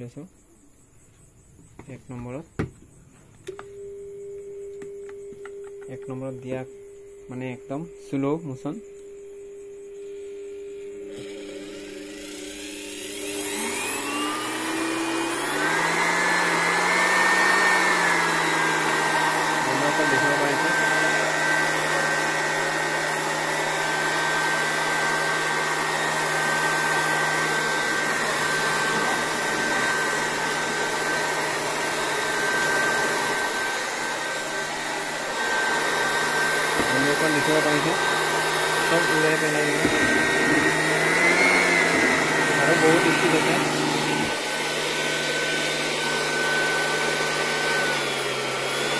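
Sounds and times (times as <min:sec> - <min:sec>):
electric air blower whine: 0:02.1 - 0:48.9.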